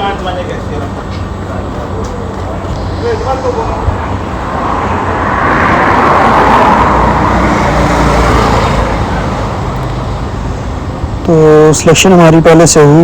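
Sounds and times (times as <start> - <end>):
truck engine revving: 0.0 - 11.3.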